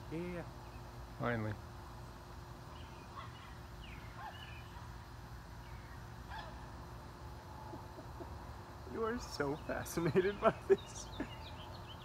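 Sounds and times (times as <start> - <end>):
distant bird calls: 0.0 - 12.0
low outdoor rumble: 0.0 - 12.0.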